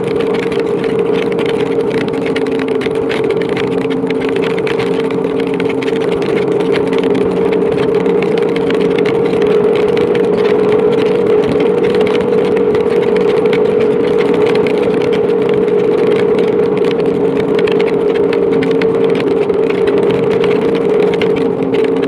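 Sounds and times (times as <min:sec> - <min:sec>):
heavy rain on microphone: 0:00.0 - 0:22.0
motorcycle engine cruising: 0:00.0 - 0:22.0.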